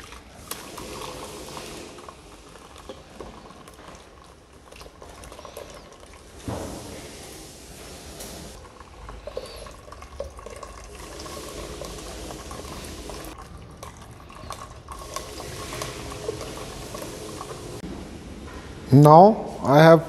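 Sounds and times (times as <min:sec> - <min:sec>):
thick liquid sloshing: 0:00.0 - 0:17.8.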